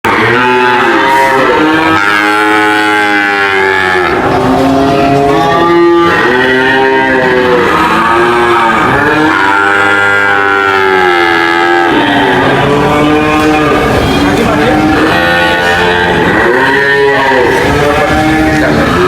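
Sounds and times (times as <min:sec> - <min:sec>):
cattle mooing: 0:00.1 - 0:19.0.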